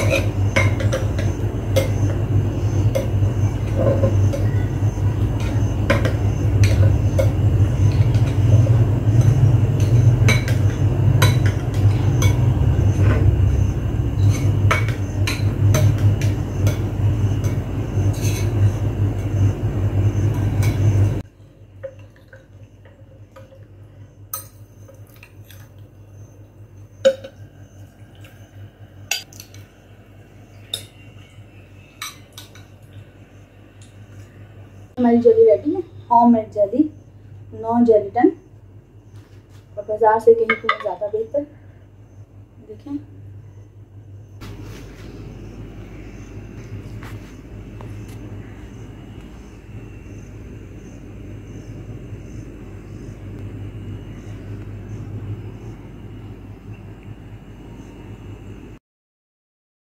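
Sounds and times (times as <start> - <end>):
loud steady low hum: 0.0 - 22.4, 23.0 - 58.8.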